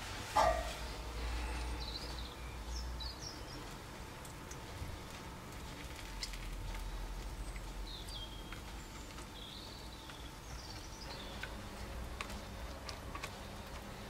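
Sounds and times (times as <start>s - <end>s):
room noise hum: 0.0s - 14.0s
birds chirping: 0.4s - 5.2s, 6.6s - 14.0s.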